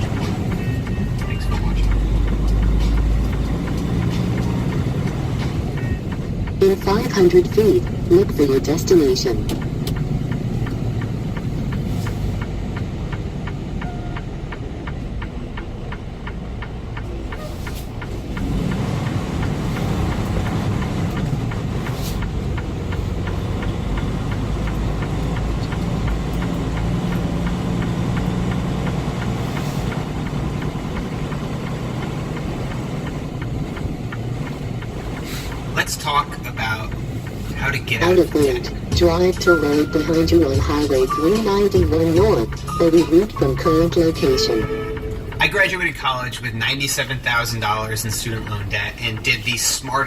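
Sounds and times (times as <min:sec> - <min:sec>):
truck diesel engine rumble: 0:00.0 - 0:50.0.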